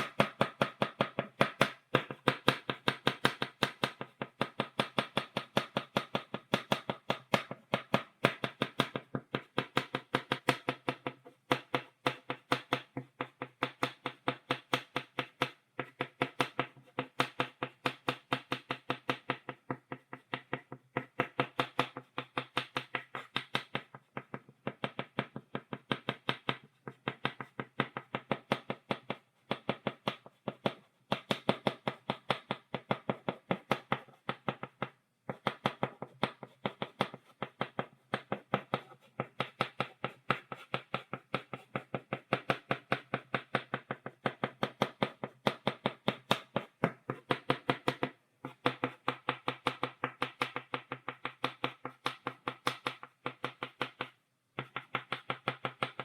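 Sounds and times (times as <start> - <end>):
chalk tapping on a blackboard: 0.0 - 56.0.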